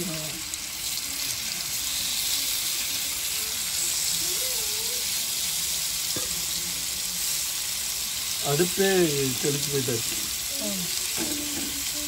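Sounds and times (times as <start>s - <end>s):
prawns sizzling in hot oil: 0.0s - 12.0s.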